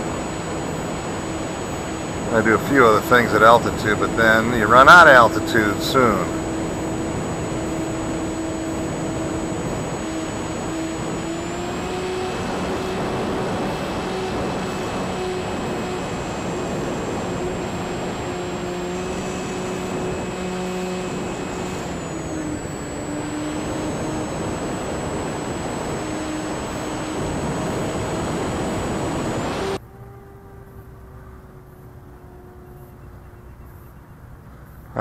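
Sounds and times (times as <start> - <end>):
model plane motor humming: 0.0 - 34.0.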